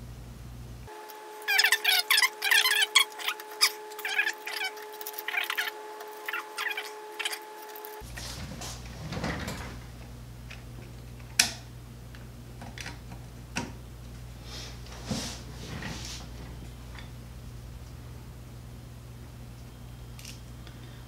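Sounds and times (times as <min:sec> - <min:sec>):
steady two-tone hum: 0:00.0 - 0:21.0.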